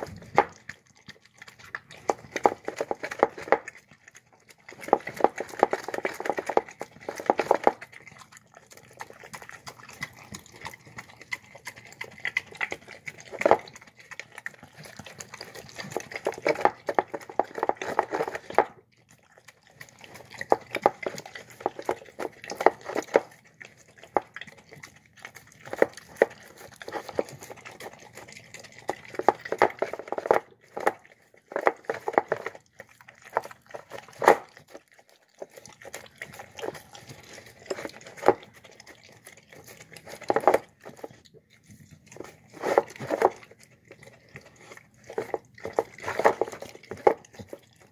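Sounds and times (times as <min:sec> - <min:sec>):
dog eating wet food: 0:00.0 - 0:47.9.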